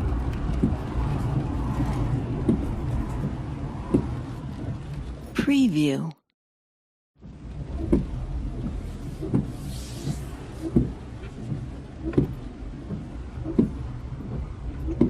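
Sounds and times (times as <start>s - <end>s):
windscreen wipers knocking: 0.0s - 5.2s, 7.2s - 15.0s
car engine rumbling: 0.0s - 5.9s, 7.2s - 15.0s.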